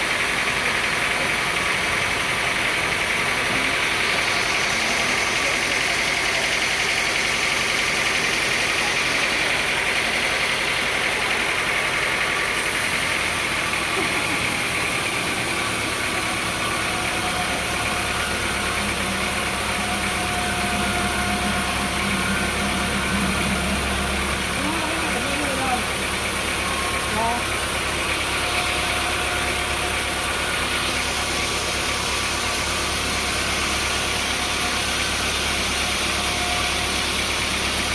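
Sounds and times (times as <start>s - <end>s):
sawmill engine drone: 0.0s - 37.9s.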